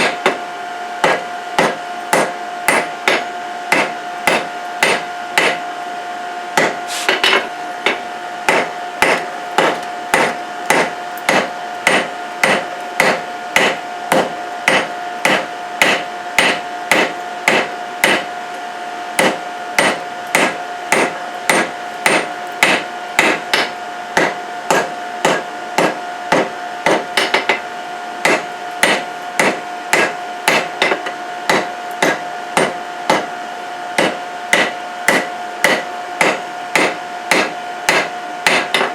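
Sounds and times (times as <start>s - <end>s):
hammer striking steel on anvil: 0.0s - 0.4s, 1.0s - 5.6s, 6.6s - 18.3s, 19.2s - 33.3s, 34.0s - 38.9s.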